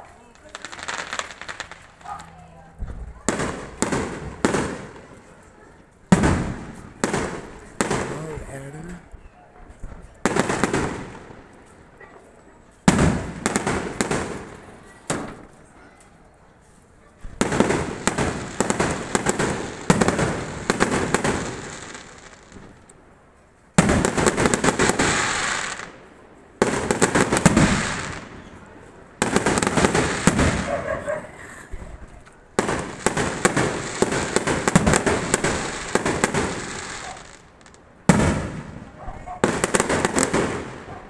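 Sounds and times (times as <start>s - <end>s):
fireworks crackling: 0.0s - 9.1s, 9.8s - 15.7s, 16.8s - 41.0s.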